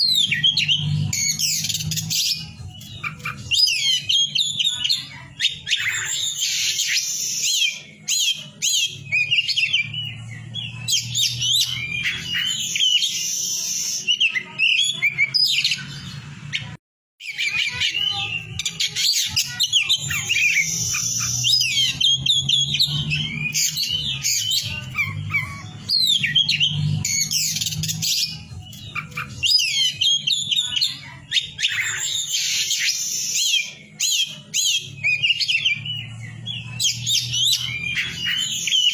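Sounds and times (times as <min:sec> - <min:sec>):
songbird whistling and chirping: 0:00.0 - 0:38.9.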